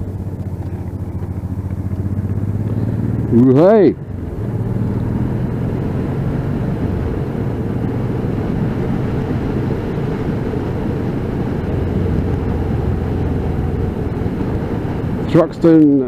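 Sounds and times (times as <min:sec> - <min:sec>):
motorcycle engine running: 0:00.0 - 0:16.0
even rushing noise: 0:02.0 - 0:15.8.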